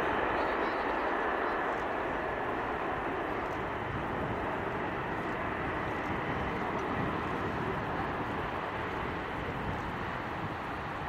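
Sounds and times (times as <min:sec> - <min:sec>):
jet airliner engine rumble: 0:00.0 - 0:11.0.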